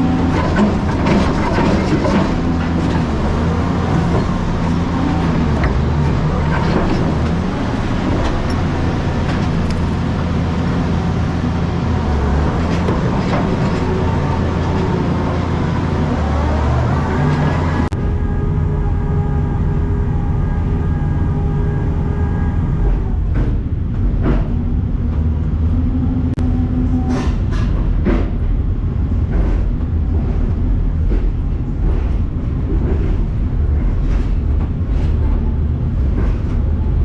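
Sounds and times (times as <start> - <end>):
diesel engine drone: 0.0 - 37.0
machinery clanks and knocks: 0.0 - 37.0.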